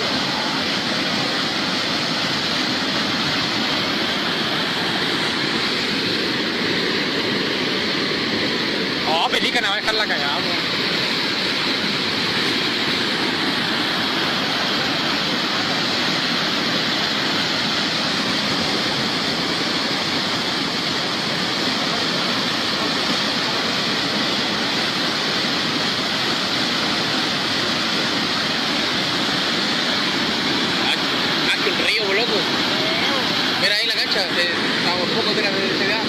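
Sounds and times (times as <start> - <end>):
fast-flowing water rushing: 0.0 - 36.0.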